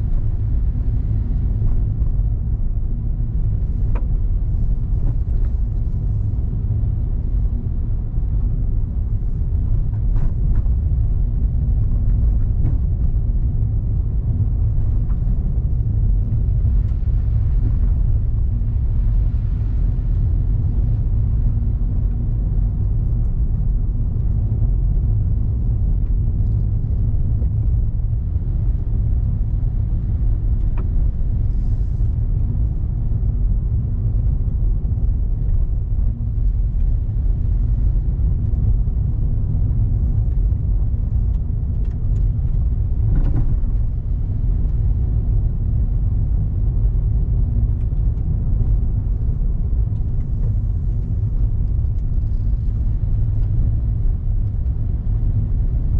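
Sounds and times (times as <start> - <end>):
vehicle engine and road noise: 0.0 - 55.9.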